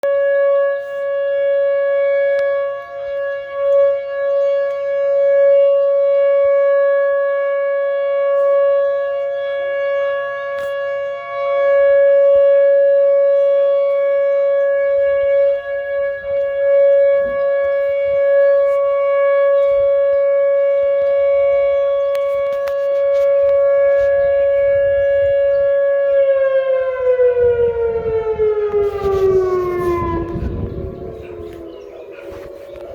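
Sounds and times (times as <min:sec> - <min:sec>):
tornado siren alert tone: 0:00.0 - 0:32.9.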